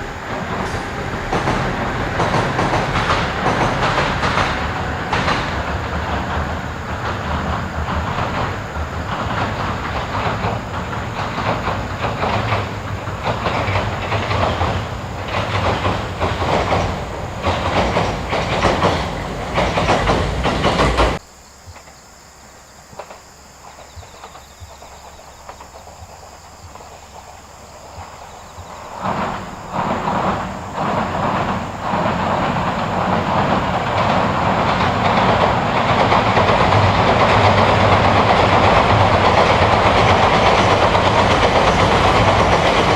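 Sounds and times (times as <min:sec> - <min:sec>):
wheels clattering over rail joints: 0:00.0 - 0:22.0, 0:22.8 - 0:42.9
train rumbling over steel bridge: 0:00.0 - 0:42.9.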